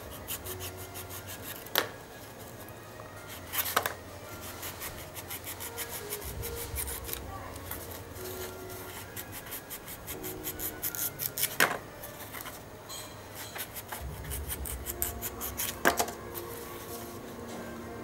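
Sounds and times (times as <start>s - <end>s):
knife scraping fruit skin: 0.0s - 2.0s, 2.6s - 12.6s, 13.3s - 16.6s.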